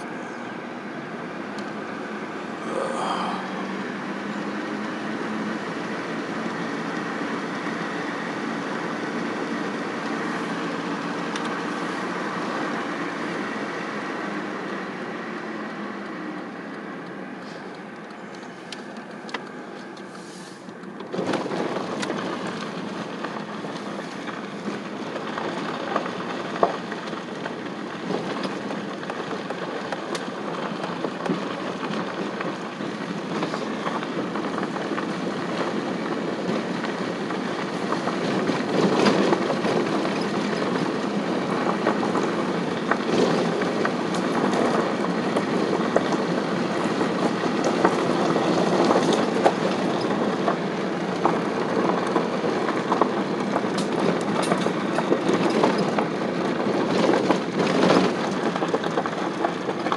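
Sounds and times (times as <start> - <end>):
vehicle engine drone: 0.0 - 59.9.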